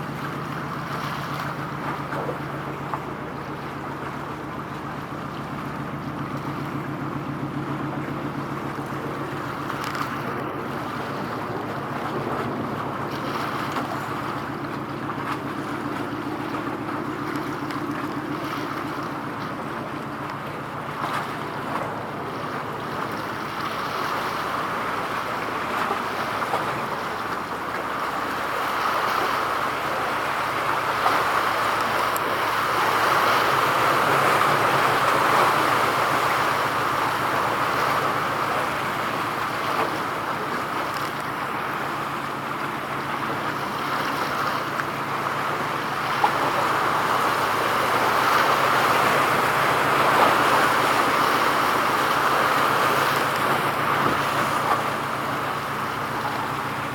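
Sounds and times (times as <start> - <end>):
boat engine droning: 0.0 - 56.9
rushing water: 0.0 - 56.9.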